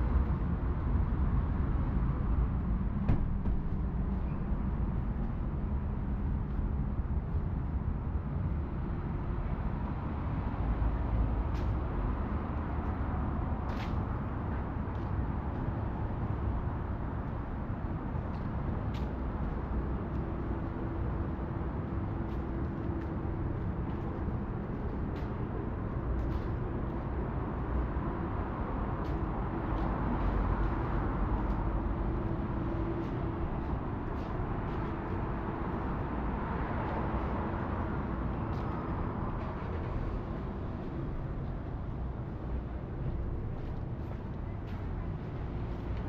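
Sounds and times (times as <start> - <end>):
cars and buses passing: 0.0 - 46.0
low engine hum: 0.0 - 46.0.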